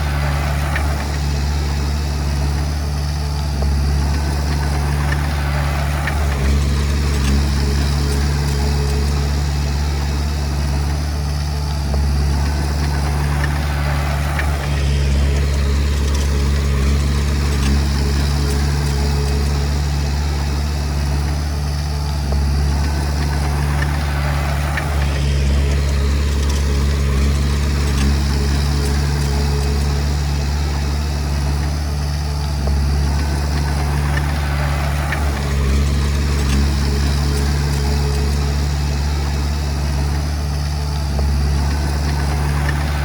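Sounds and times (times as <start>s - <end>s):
bulldozer diesel engine droning: 0.0s - 43.0s.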